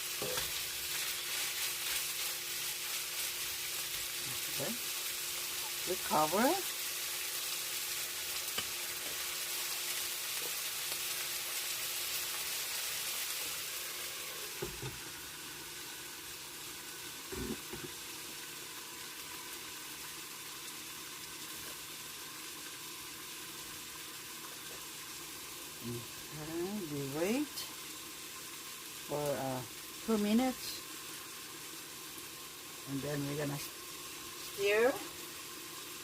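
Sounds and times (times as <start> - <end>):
meat sizzling in a covered pan: 0.0 - 36.0.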